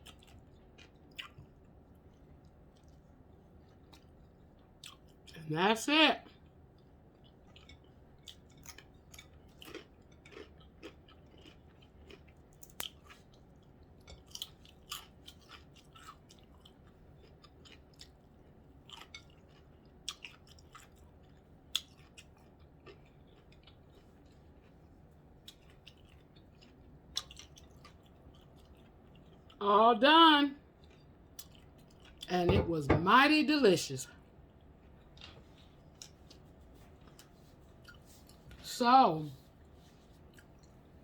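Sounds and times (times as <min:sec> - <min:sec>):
chewing food: 0:00.0 - 0:05.4, 0:06.2 - 0:29.6, 0:30.6 - 0:32.3, 0:34.1 - 0:38.6, 0:39.4 - 0:41.0.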